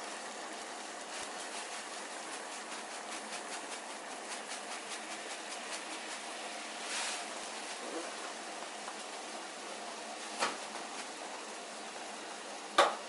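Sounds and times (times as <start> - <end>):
water heating in a pot: 0.0 - 13.0.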